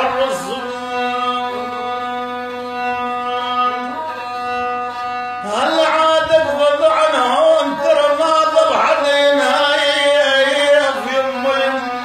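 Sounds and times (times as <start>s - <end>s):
bowed violin note: 0.0s - 12.0s.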